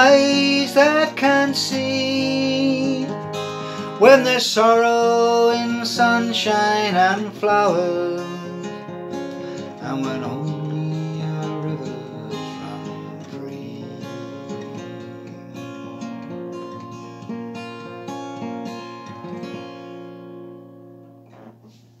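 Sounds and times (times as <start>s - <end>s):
acoustic guitar strummed and picked: 0.0s - 22.0s.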